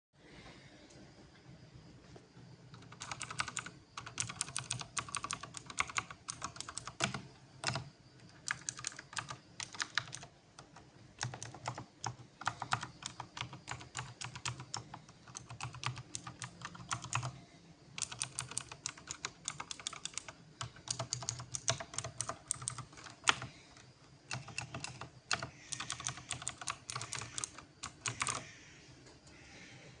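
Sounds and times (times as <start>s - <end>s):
clicky mechanical keyboard typing: 2.7s - 17.4s, 18.0s - 28.5s.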